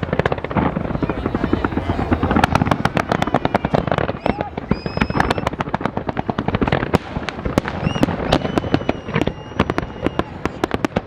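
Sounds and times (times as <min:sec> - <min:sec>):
fireworks bangs and crackling: 0:00.0 - 0:11.0
high whistling fireworks: 0:00.0 - 0:11.0.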